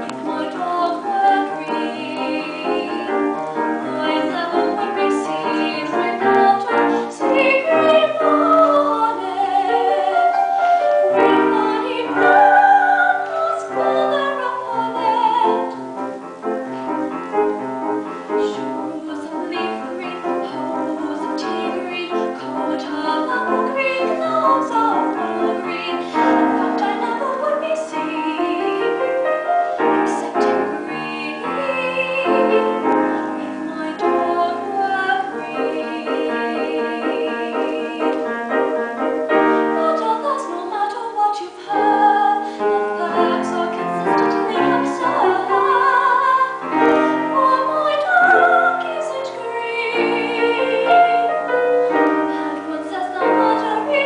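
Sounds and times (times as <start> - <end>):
woman singing operatically: 0.0 - 15.9, 18.2 - 54.0
piano accompaniment: 0.0 - 54.0.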